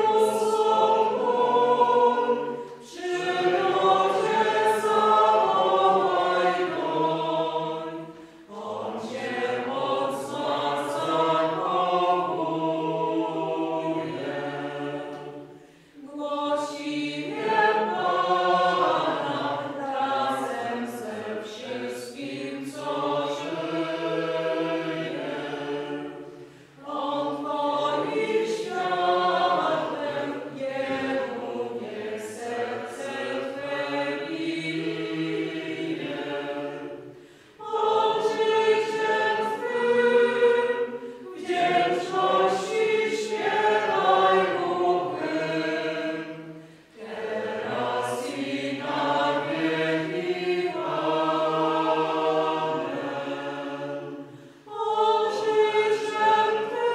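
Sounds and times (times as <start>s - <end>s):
choir singing: 0.0s - 56.9s.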